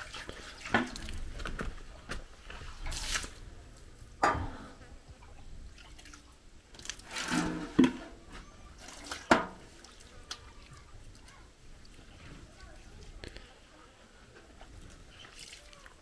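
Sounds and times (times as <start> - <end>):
water pouring and splashing: 0.0 - 3.5, 5.2 - 13.3, 14.6 - 16.0.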